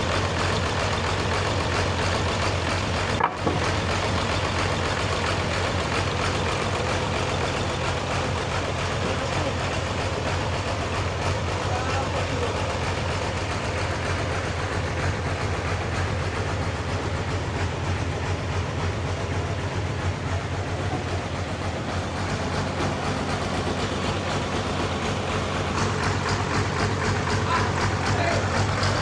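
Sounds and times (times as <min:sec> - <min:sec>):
sawmill engine humming: 0:00.0 - 0:29.0.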